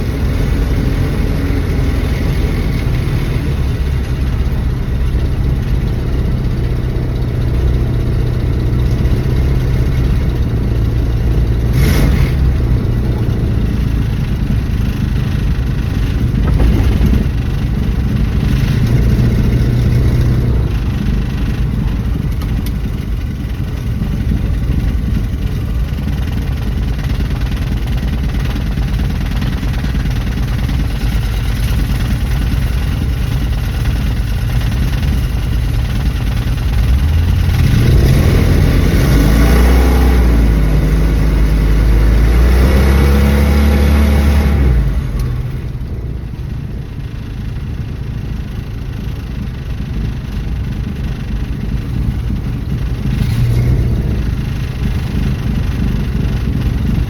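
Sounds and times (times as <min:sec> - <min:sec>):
car engine accelerating: 0:00.0 - 0:48.5, 0:50.6 - 0:57.0
road noise: 0:00.0 - 0:57.0.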